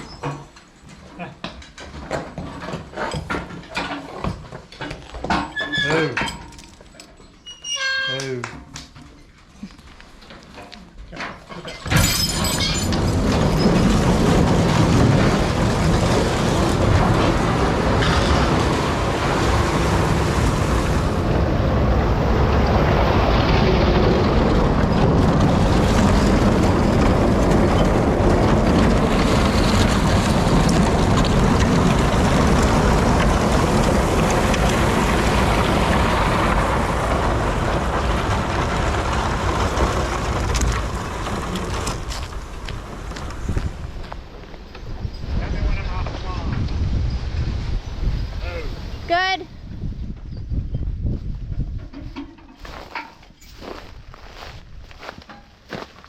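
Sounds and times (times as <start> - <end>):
chicken tractor being pulled: 0.0 - 46.6, 51.5 - 56.0.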